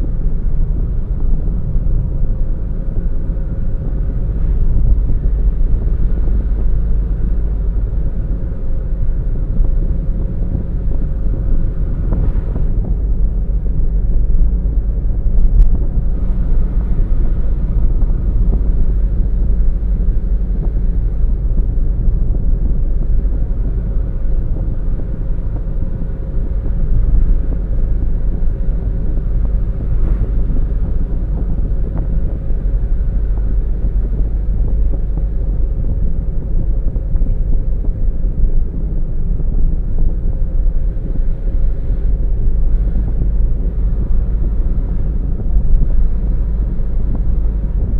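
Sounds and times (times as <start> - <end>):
car road and engine rumble: 0.0 - 47.9
faint steady hum: 0.0 - 47.9.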